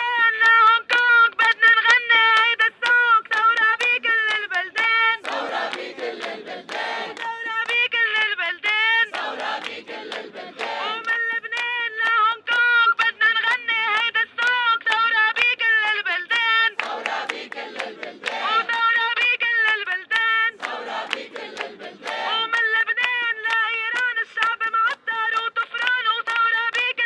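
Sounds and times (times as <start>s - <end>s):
crowd clapping along: 0.0s - 27.0s
crowd singing: 0.0s - 27.0s
woman singing through a megaphone: 0.0s - 27.0s.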